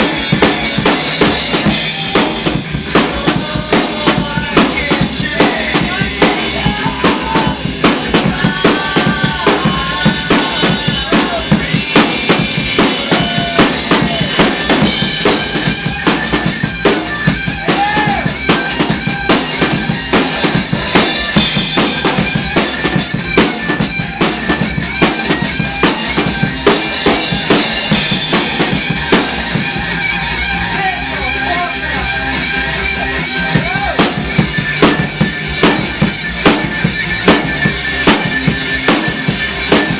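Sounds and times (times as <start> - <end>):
drum kit fast beat: 0.0 - 39.9
rock music: 0.0 - 39.9.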